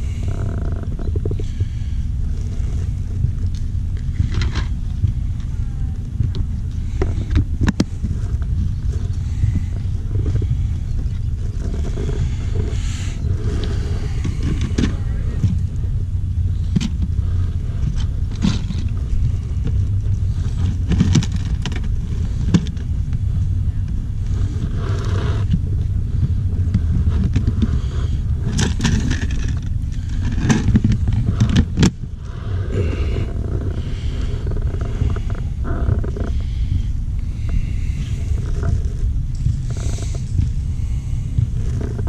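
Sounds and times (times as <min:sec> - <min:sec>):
car rumbling on road: 0:00.0 - 0:42.0.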